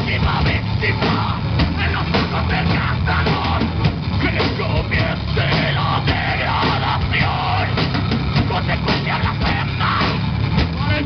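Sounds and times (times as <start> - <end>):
heavy rock band playing: 0.0 - 11.0
pounding drum kit: 0.0 - 11.0
shouted vocals: 0.0 - 11.0.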